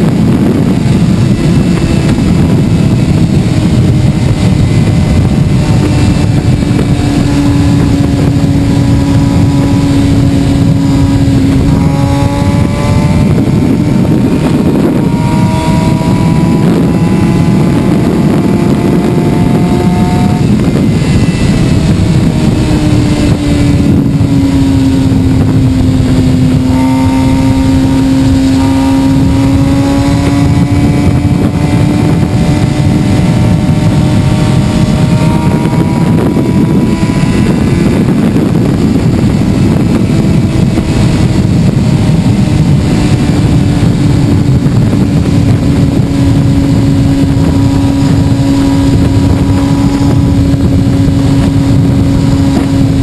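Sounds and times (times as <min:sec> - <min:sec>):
dense rushing noise: 0:00.0 - 0:53.0
motorcycle engine at speed: 0:00.0 - 0:53.0.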